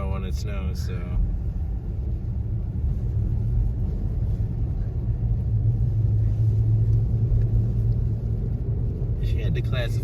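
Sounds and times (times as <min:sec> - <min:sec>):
pickup engine and tyre rumble: 0:00.0 - 0:10.0.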